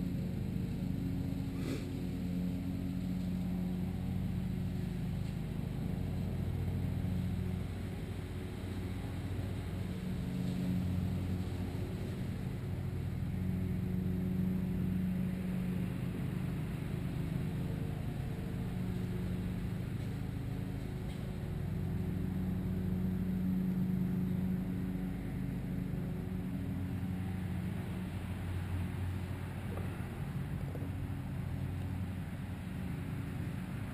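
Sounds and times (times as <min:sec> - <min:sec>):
low motor drone: 0:00.0 - 0:33.9.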